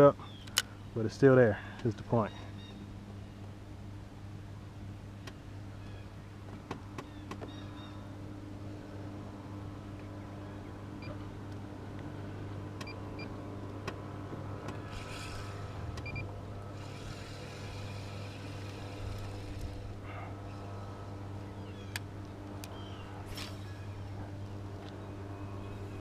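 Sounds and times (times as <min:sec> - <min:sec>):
low motor hum: 0:00.0 - 0:26.0.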